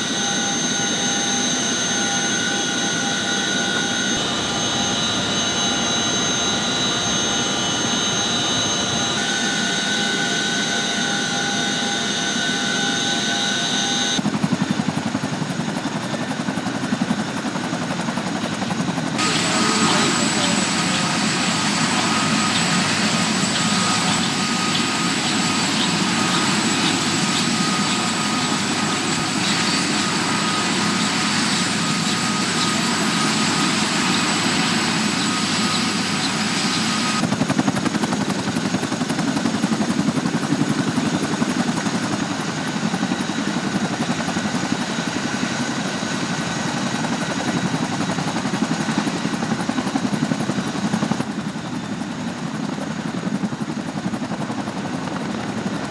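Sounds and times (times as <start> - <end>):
thin turbine whine: 0.0 - 14.9, 19.0 - 51.3
helicopter rotors and engines running: 0.0 - 55.9.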